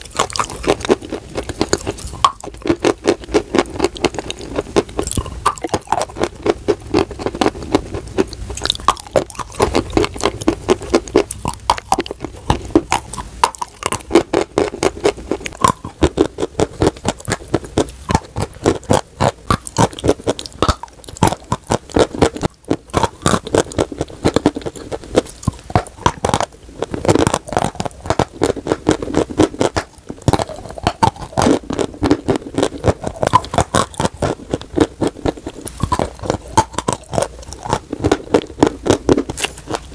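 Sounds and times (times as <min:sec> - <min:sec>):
chewing crunchy chalk: 0:00.0 - 0:39.9.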